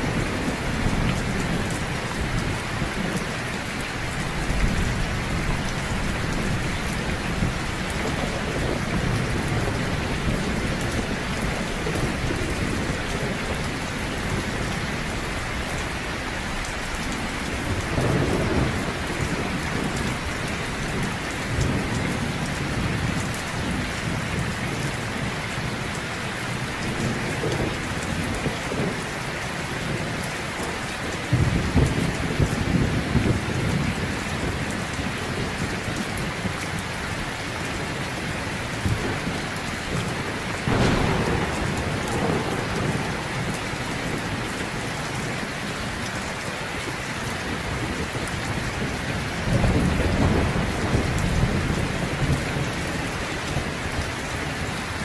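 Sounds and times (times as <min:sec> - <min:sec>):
heavy rain pouring: 0:00.0 - 0:55.0
low thunder rumbling: 0:00.0 - 0:55.0.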